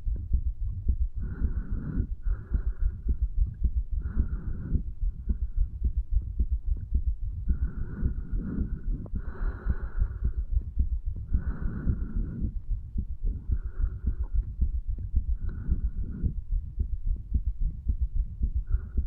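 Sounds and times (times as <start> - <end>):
heartbeat thumps: 0.0 - 19.0
breath noise: 0.9 - 19.0.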